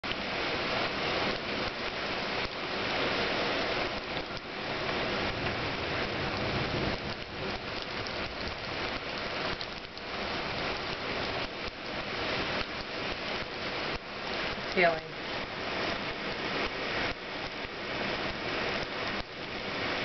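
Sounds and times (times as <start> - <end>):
heavy rain on a roof: 0.0 - 20.0.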